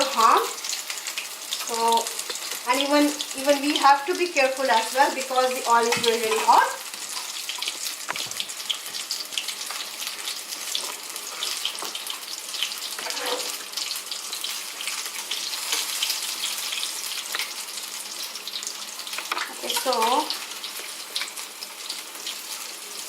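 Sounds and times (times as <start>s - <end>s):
batter sizzling in hot oil: 0.0s - 23.0s.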